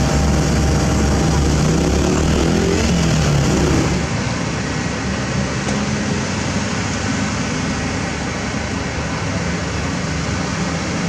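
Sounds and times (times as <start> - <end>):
heavy diesel engines rumbling: 0.0 - 11.0
street traffic: 0.0 - 11.0.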